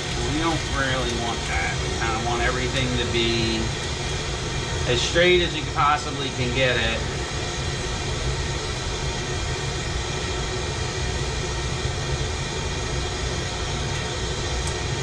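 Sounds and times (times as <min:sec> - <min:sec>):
torch flame rushing: 0:00.0 - 0:15.0.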